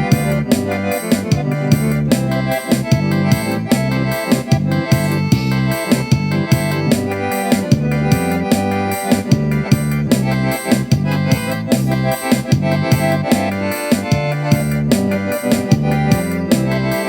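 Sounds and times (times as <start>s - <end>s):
accordion playing held chords: 0.0s - 17.0s
steady percussive beat: 0.0s - 17.0s.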